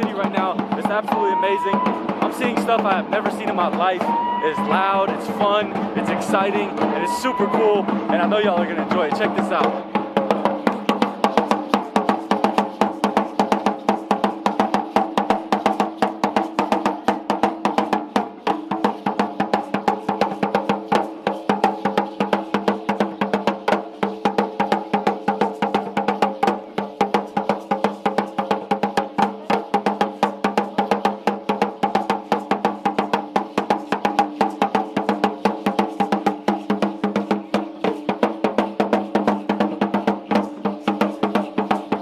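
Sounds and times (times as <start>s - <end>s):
drum beaten with sticks: 0.0s - 42.0s.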